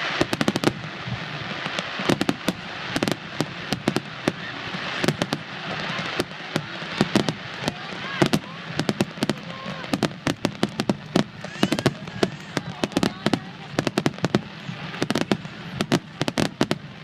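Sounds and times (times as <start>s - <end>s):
continuous hiss: 0.0s - 17.0s
firework shells bursting: 1.8s - 17.0s.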